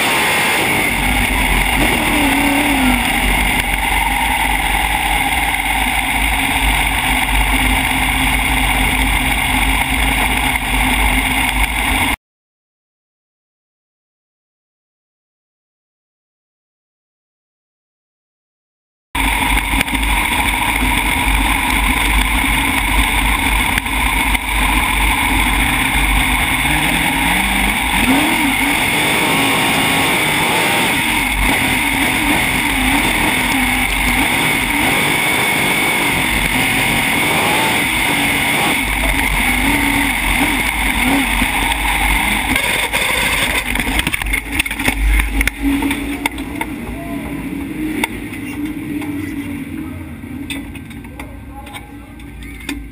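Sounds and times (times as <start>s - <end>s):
race car engine: 0.0s - 12.2s, 19.2s - 52.9s.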